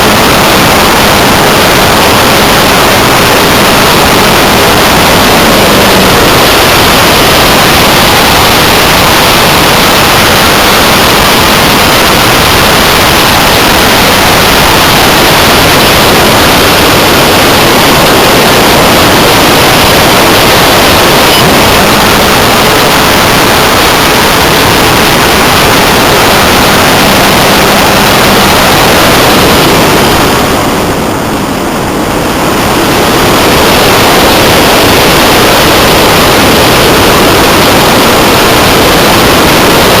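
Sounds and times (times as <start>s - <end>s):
electric motor and propeller noise: 0.0s - 40.0s
wind rushing: 0.0s - 40.0s.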